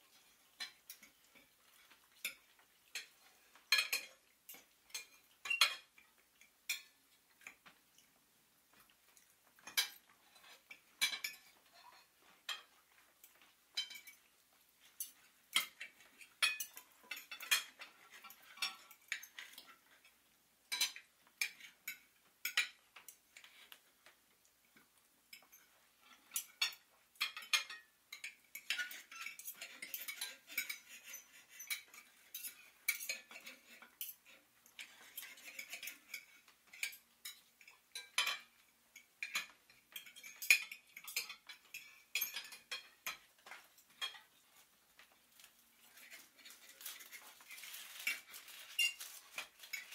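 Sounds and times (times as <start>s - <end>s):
cutlery and dishes clattering: 0.1s - 8.1s, 8.7s - 49.9s.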